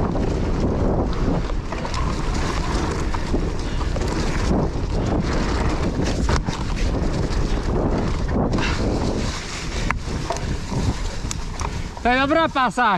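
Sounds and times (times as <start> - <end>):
bike tyre and trail noise: 0.0 - 12.9
wind rushing over microphone: 0.0 - 12.9.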